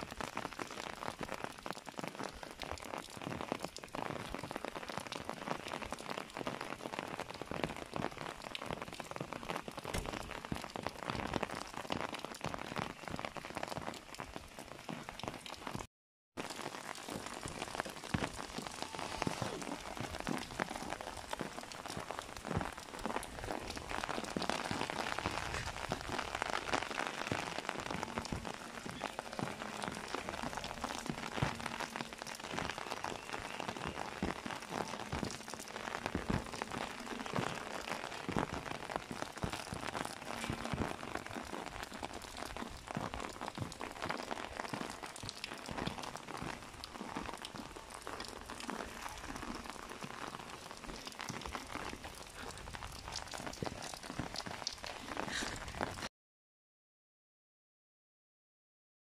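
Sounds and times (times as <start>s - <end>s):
raindrops ticking on an umbrella: 0.0s - 56.1s
steady rain falling: 0.0s - 56.1s.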